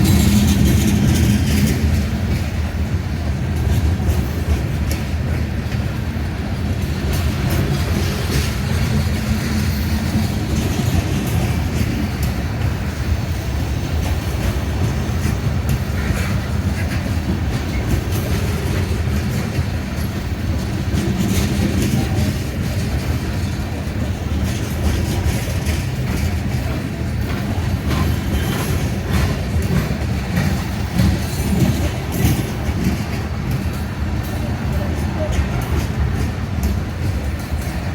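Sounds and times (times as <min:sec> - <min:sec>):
train cars rumbling past: 0:00.0 - 0:37.9
wheels clicking over rail joints: 0:00.0 - 0:37.9.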